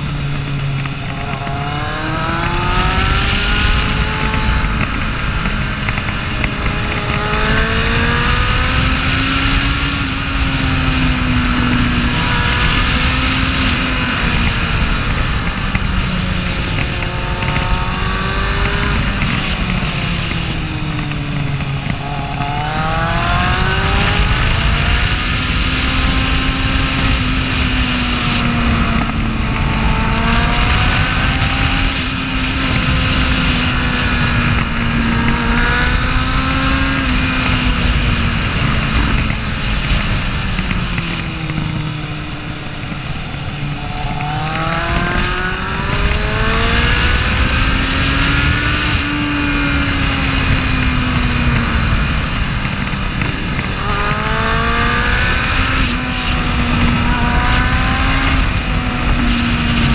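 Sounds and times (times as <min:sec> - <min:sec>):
motorcycle engine revving: 0:00.0 - 0:59.9
wind rush over microphone: 0:00.0 - 0:59.9.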